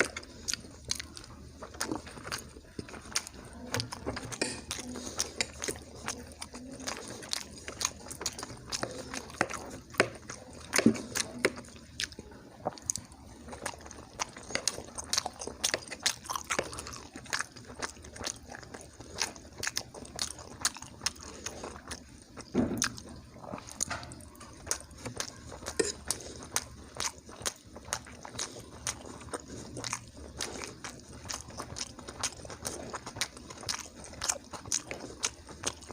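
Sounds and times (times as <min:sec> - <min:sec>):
person chewing soft food: 0:00.0 - 0:35.9.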